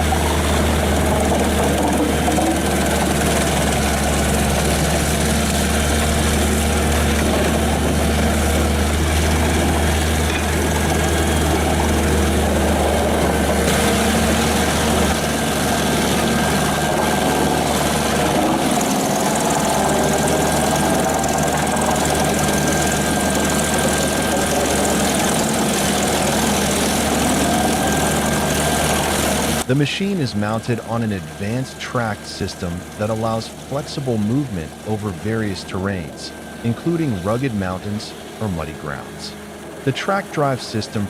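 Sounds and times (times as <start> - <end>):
wood chipper diesel engine droning: 0.0 - 41.0.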